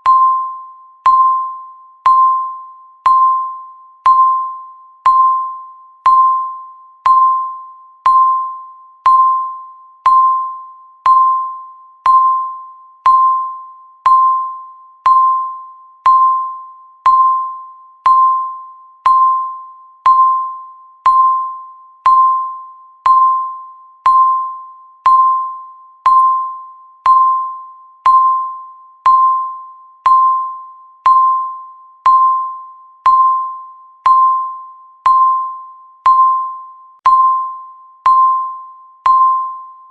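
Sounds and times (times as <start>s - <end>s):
electronic timer beeps: 0.0s - 39.9s.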